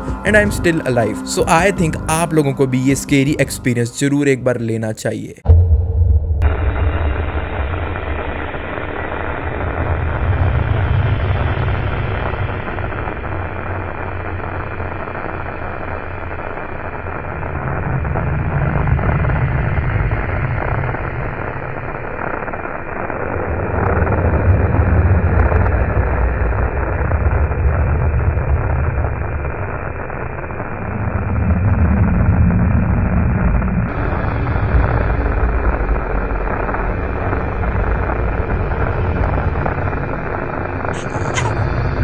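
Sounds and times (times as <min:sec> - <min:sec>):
deep rumble: 0:00.0 - 0:03.5, 0:05.4 - 0:42.0
harsh static noise: 0:00.0 - 0:04.1, 0:06.4 - 0:42.0.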